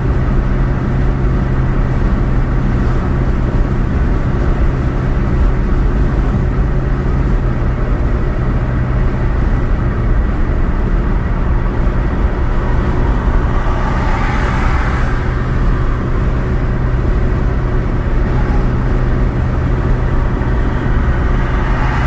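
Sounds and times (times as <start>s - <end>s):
car engine hum: 0.0s - 22.0s
rumbling tyre noise: 0.0s - 22.0s.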